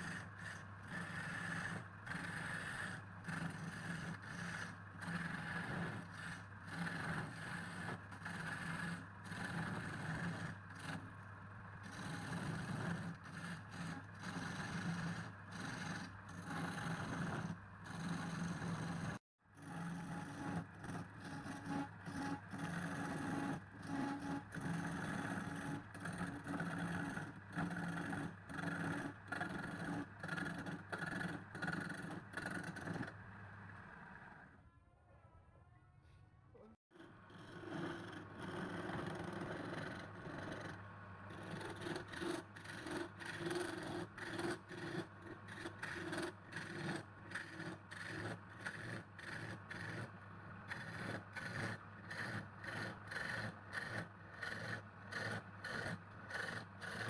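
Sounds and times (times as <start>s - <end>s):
motor running: 0.0s - 34.6s, 37.0s - 57.0s.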